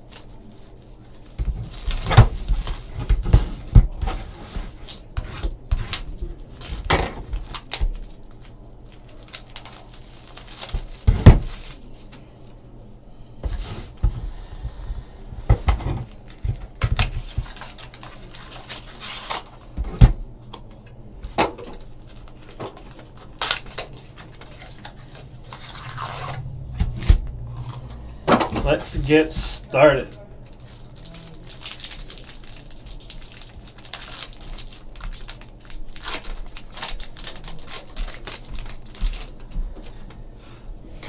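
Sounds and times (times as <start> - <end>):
card packs rustling: 0.0 - 12.2, 16.0 - 19.8, 20.4 - 39.9.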